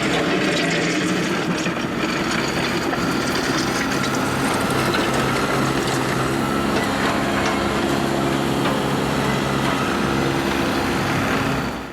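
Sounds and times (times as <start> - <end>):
excavator diesel engine running: 0.0 - 11.9.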